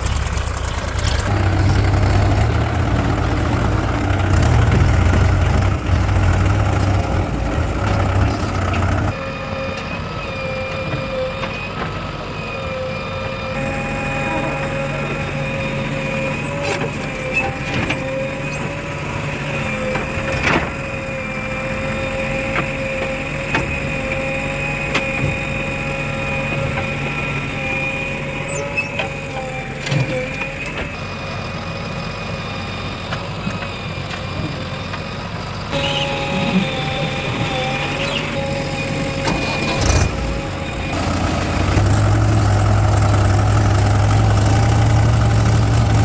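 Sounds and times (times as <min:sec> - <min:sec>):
heavy diesel machinery running: 0:00.0 - 0:46.0.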